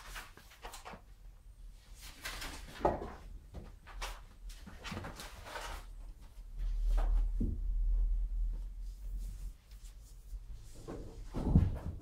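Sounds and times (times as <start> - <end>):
kittens scuffling and rustling: 0.0 - 12.0.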